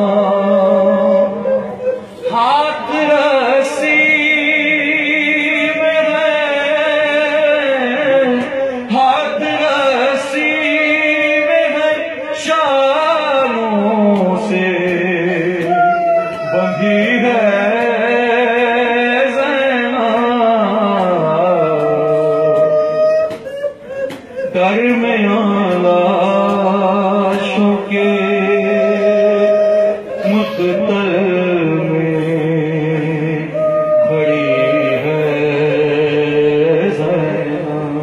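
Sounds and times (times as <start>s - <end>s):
man singing into a microphone: 0.0s - 38.0s.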